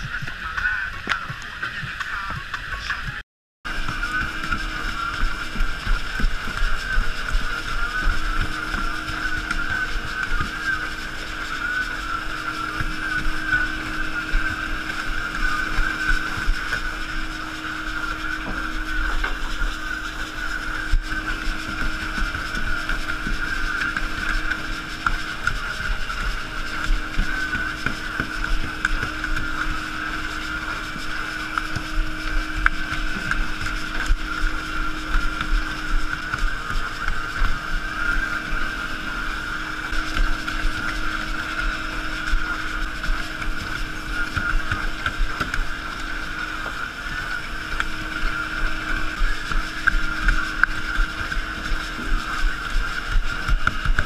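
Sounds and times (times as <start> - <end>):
boat engine droning: 0.0 - 54.0
water and wind rushing along hull: 0.0 - 54.0.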